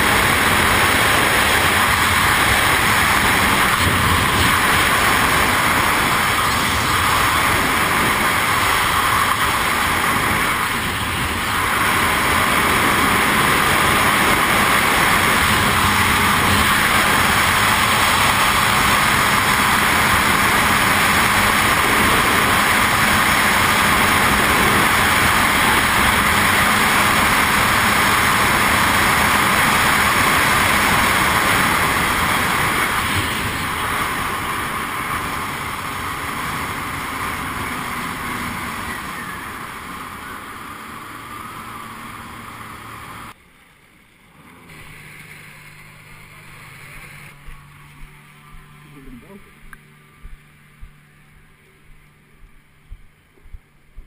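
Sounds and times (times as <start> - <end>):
jet ski engine and water rush: 0.0 - 43.4, 44.4 - 53.8.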